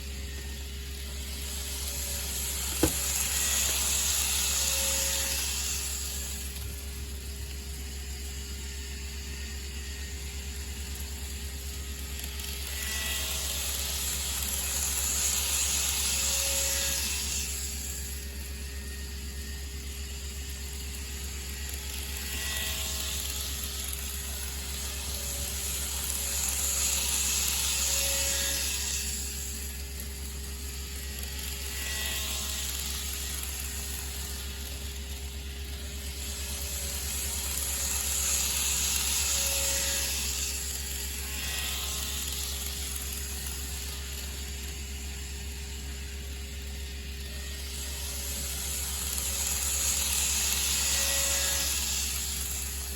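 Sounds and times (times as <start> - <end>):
model trains rattling past: 0.2 - 19.5, 20.5 - 52.9.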